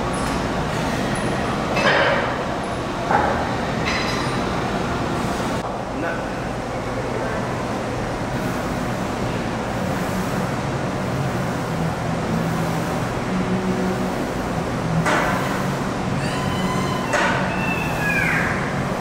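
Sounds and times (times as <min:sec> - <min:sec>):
busy weight room noise: 0:00.0 - 0:19.0.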